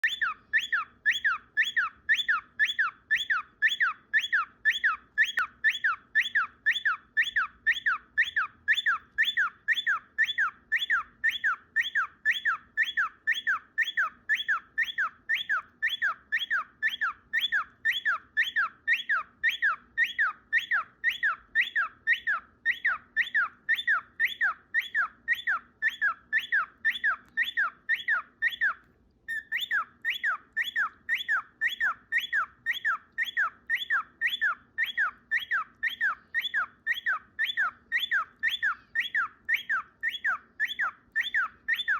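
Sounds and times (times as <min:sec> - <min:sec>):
cockatiel chirping: 0:00.0 - 0:41.9.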